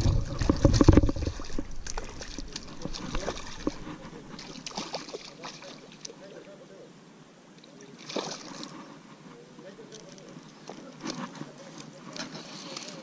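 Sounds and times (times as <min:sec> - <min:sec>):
water splashing: 0:00.0 - 0:06.5, 0:07.6 - 0:09.0, 0:09.8 - 0:13.0.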